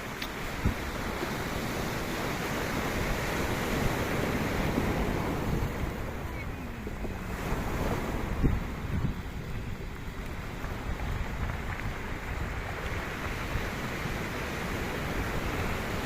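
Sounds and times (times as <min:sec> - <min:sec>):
sea waves washing on shore: 0:00.0 - 0:16.0
wind buffeting microphone: 0:00.0 - 0:16.0.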